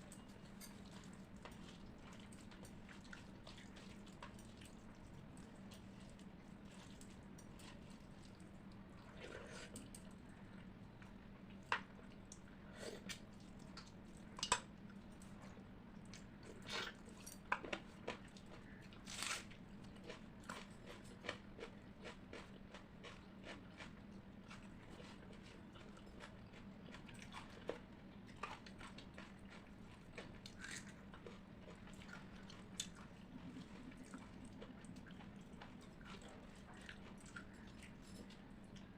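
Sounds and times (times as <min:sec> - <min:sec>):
faint steady hum: 0:00.0 - 0:38.9
wet chewing and mouth sounds: 0:00.0 - 0:38.9.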